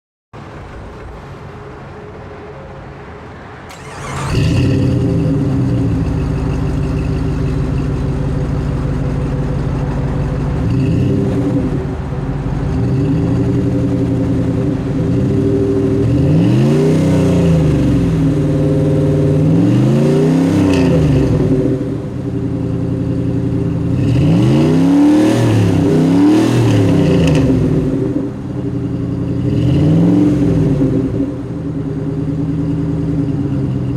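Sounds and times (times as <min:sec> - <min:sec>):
car engine revving: 0:00.4 - 0:33.9.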